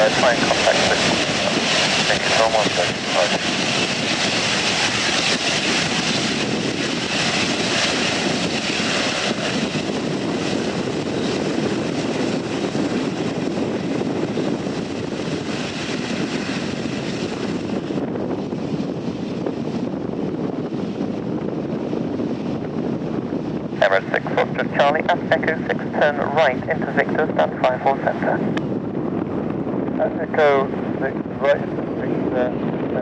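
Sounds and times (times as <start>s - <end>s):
jet engines rushing: 0.0s - 33.0s.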